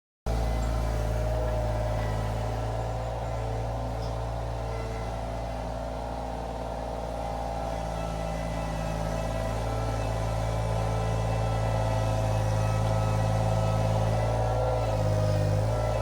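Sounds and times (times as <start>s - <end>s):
skid steer engine running: 0.3s - 16.0s.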